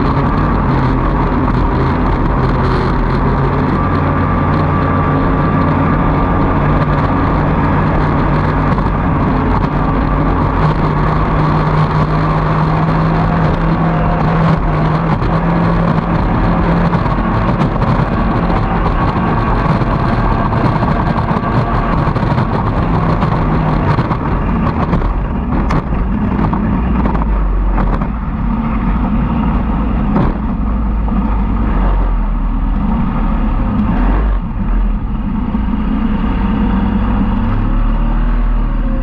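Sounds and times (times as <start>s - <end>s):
outboard engine at high speed: 0.0s - 39.0s.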